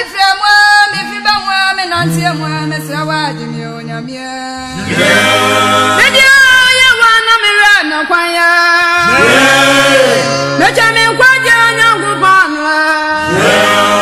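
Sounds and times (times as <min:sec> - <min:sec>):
gospel choir singing: 0:00.1 - 0:14.0.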